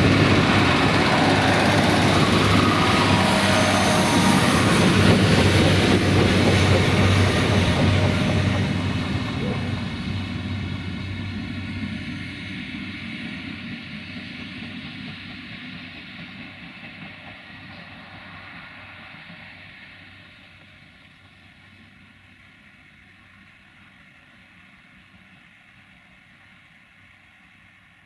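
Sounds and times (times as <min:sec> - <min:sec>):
railcar diesel engine rumbling: 0:00.0 - 0:28.0.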